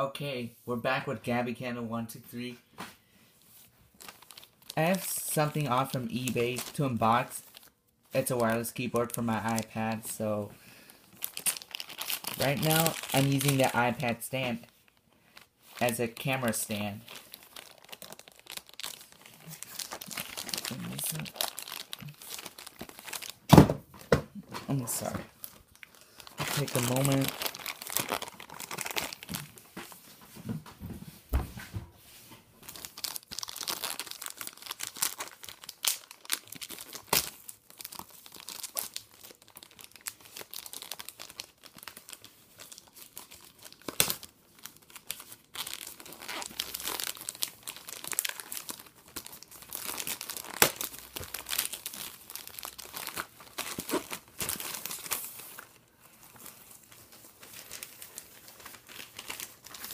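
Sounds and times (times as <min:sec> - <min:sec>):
plastic and paper wrapping crinkling: 0:03.4 - 0:30.9, 0:32.2 - 0:59.9.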